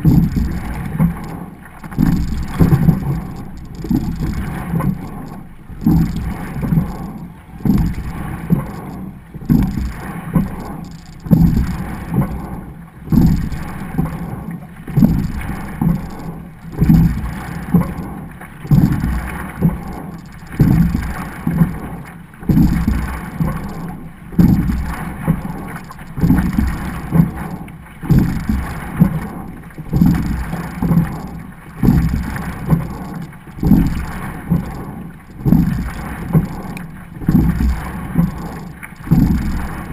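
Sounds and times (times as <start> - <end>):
rowing stroke surge and knock: 0.0 - 39.9
water rushing along hull: 0.0 - 39.9.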